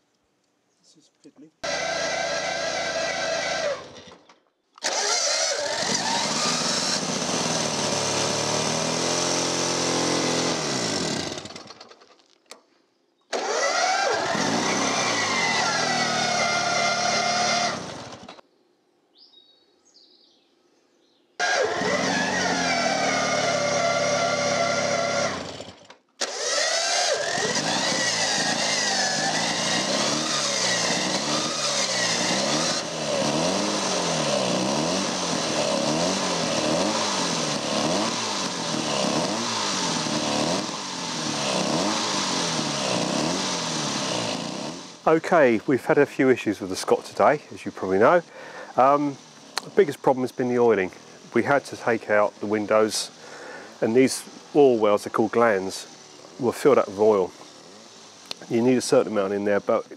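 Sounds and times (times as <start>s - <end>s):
two-stroke engine revving: 1.6s - 12.0s, 13.3s - 18.4s, 21.4s - 59.9s.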